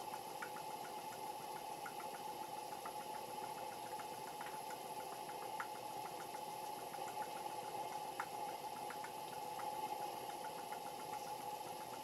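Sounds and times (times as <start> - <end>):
faint ticks: 0.0 - 12.0.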